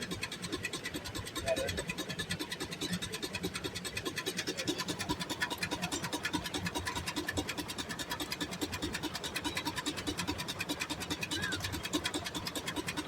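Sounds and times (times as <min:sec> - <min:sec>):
steam-powered sawmill running: 0:00.0 - 0:13.0.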